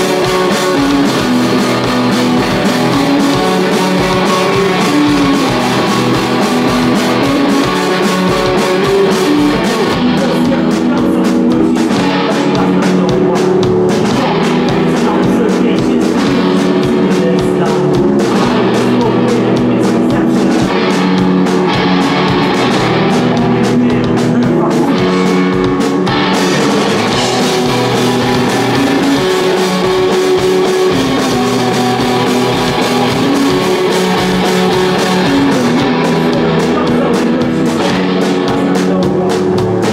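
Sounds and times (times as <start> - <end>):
drum kit playing: 0.0 - 39.9
electric guitar chords: 0.0 - 39.9.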